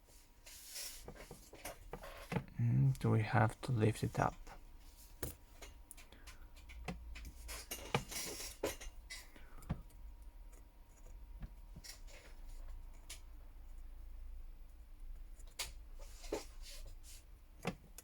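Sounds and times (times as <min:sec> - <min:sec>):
faint low hum: 0:01.2 - 0:18.0.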